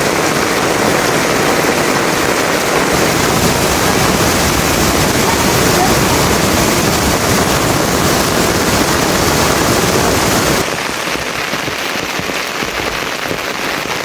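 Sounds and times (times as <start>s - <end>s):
heavy rain falling: 0.0s - 14.0s
light rain drops striking: 0.0s - 14.0s.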